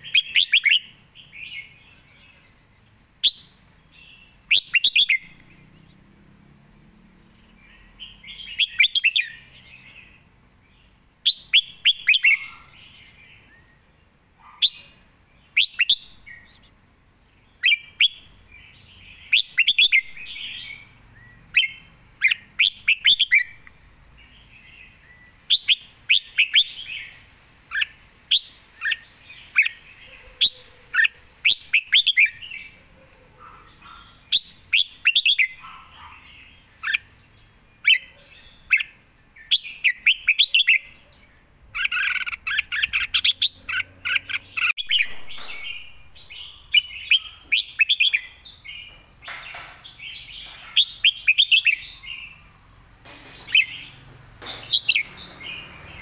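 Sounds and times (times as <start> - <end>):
bird chirping song: 0.0 - 56.0.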